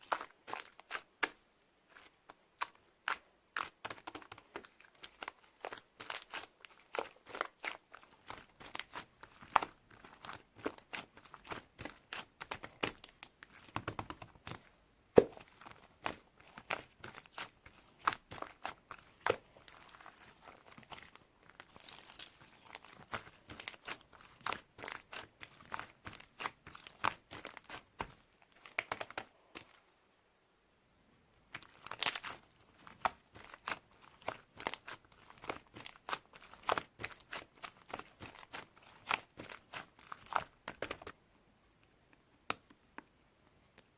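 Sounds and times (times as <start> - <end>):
slime popping and crackling: 2.0 - 14.6, 15.2 - 29.7, 31.5 - 41.1.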